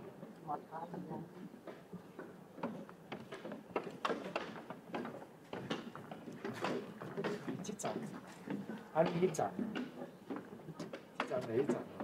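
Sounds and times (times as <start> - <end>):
footsteps on a trail: 1.3 - 12.0.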